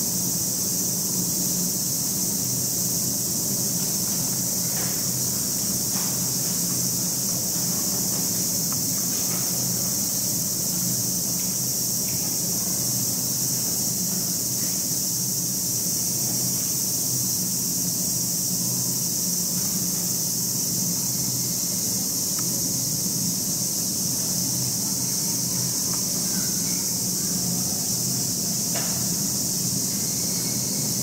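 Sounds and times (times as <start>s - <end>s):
cicadas singing in chorus: 0.0s - 31.0s
low mechanical hum: 0.0s - 31.0s.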